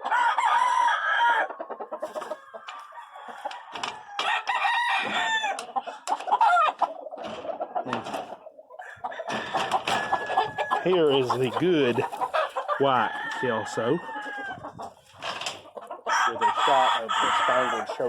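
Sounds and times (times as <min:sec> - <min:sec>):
chickens clucking: 0:00.0 - 0:18.0
roosters crowing: 0:00.0 - 0:18.0.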